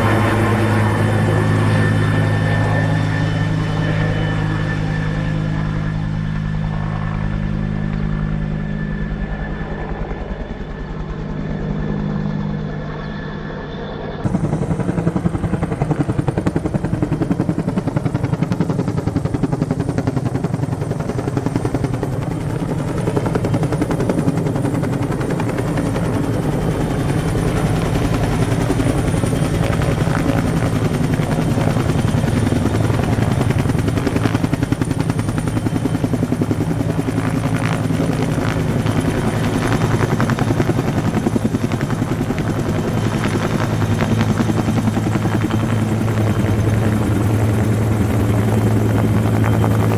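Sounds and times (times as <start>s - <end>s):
helicopter rotor chop: 0.0s - 49.9s
turbine whine: 0.0s - 49.9s.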